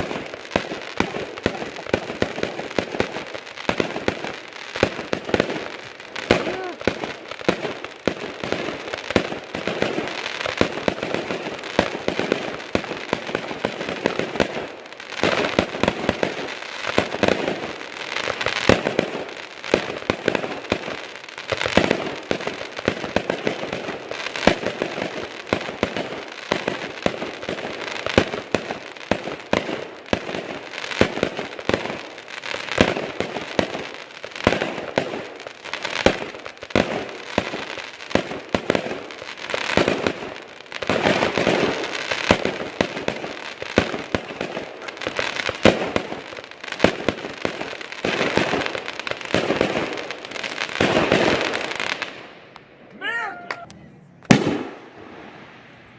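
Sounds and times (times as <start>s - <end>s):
fireworks cracking and banging: 0.0s - 55.9s
fireworks crackling: 0.0s - 55.9s.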